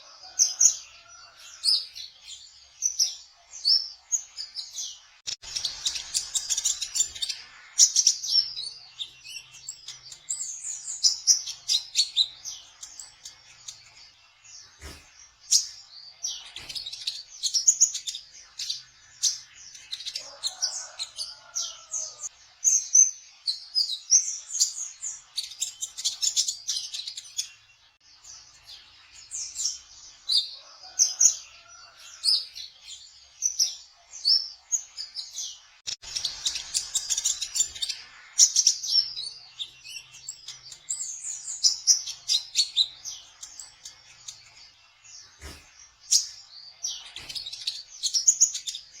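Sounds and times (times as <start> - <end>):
bird singing rapid chirps and trills: 0.0 - 49.0.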